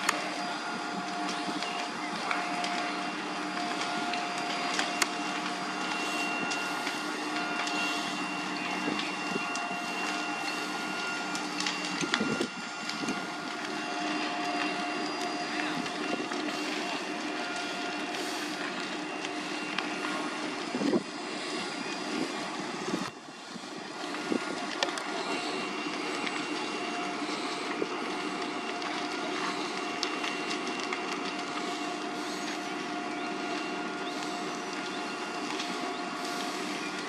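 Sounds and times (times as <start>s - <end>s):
pump running with steady hum: 0.0s - 37.0s.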